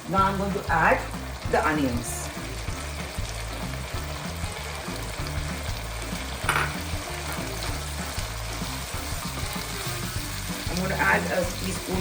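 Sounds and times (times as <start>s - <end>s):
onions sizzling in oil: 0.0s - 12.0s
soft background music: 0.0s - 12.0s.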